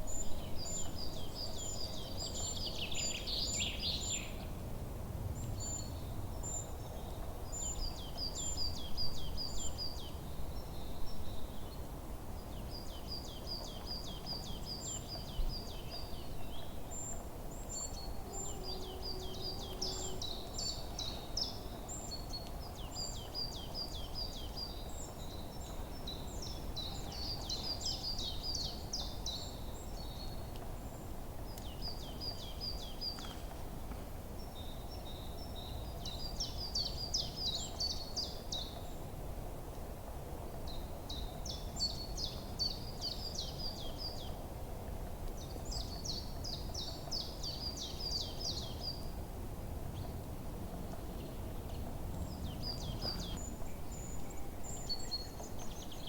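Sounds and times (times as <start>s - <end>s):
songbird singing: 0.0s - 4.6s, 5.4s - 33.6s, 34.4s - 39.1s, 40.6s - 44.5s, 45.2s - 49.2s, 50.8s - 56.0s.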